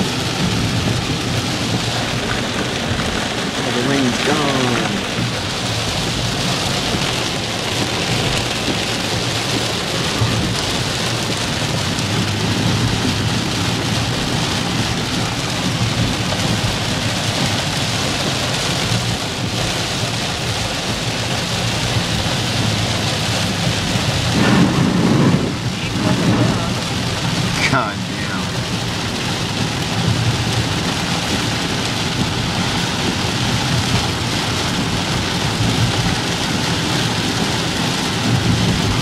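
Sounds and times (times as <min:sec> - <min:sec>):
low rumble: 0:00.0 - 0:19.7, 0:20.5 - 0:36.5
heavy rain pouring: 0:00.0 - 0:39.0.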